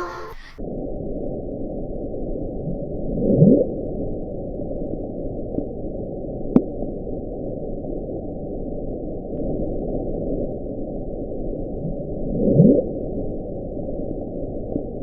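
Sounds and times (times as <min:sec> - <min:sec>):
muffled underwater ocean rumble: 0:00.0 - 0:15.0.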